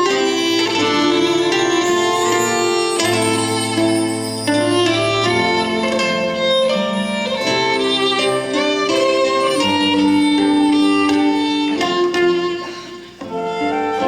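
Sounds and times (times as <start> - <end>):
melody of long held notes: 0.0 - 14.0
plucked string accompaniment: 0.0 - 14.0.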